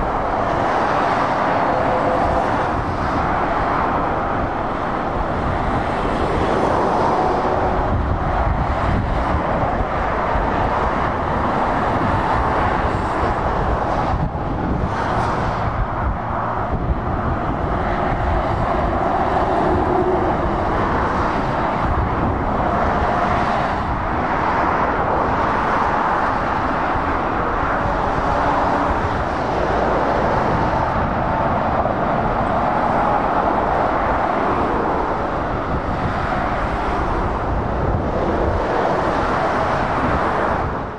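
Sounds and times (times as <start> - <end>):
steady road traffic: 0.0 - 40.9.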